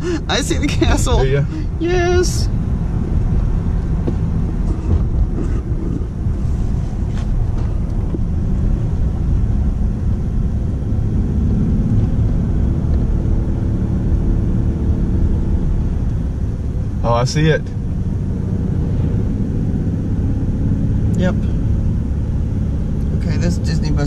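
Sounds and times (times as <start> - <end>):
car road and engine rumble: 0.0 - 24.0
steady low hum: 0.0 - 24.0.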